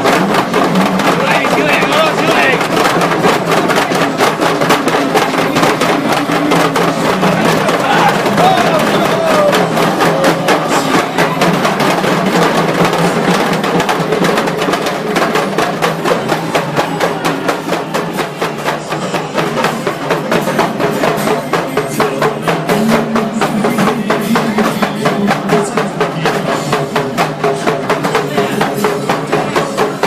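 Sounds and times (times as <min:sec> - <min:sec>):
drum strikes: 0:00.0 - 0:30.0.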